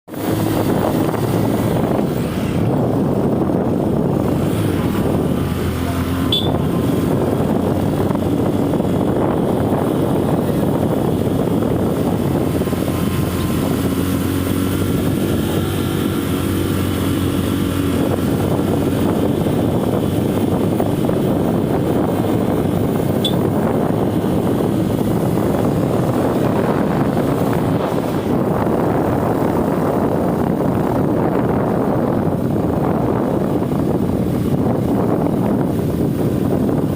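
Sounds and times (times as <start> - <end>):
road and wind noise: 0.0 - 36.9
motorcycle engine running: 0.1 - 36.9.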